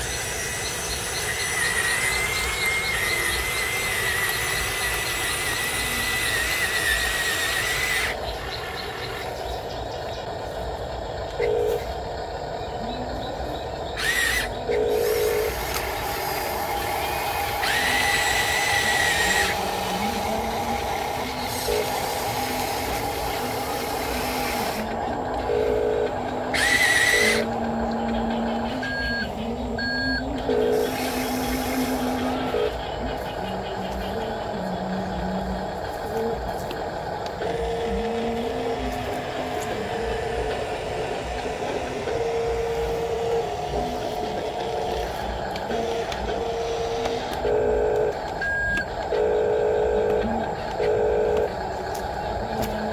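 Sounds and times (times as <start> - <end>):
electric motors whining: 0.0 - 52.9
low motor hum: 0.0 - 52.9.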